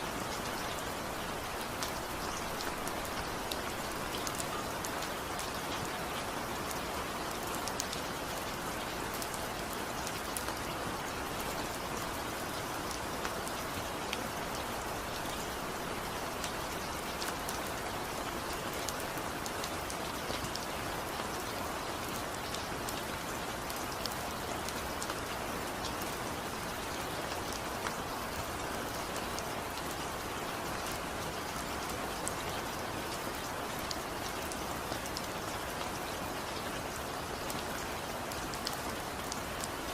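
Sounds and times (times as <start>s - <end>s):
raindrops ticking on a surface: 0.0s - 39.9s
steady rainfall: 0.0s - 39.9s.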